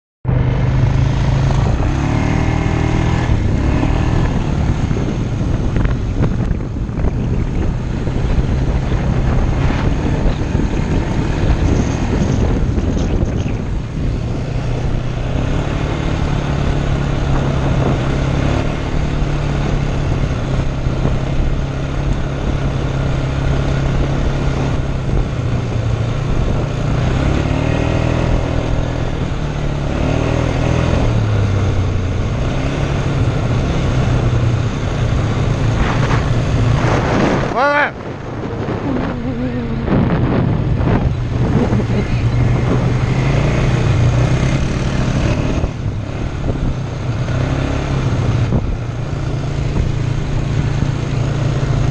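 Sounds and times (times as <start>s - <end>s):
atv engine running: 0.3s - 51.9s.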